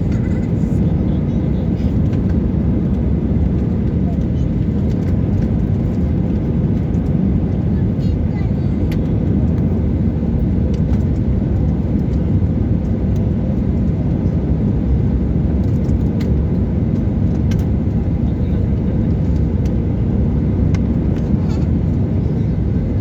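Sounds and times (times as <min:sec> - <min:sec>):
airliner engine and airflow rumble: 0:00.0 - 0:23.0.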